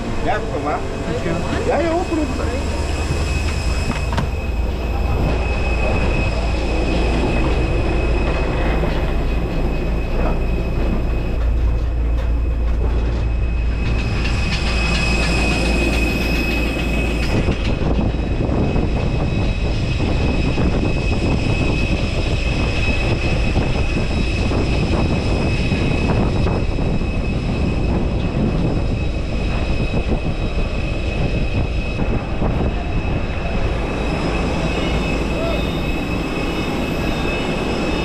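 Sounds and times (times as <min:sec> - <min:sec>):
airplane engine rumble: 0:00.0 - 0:38.0
high even whine: 0:00.0 - 0:38.0.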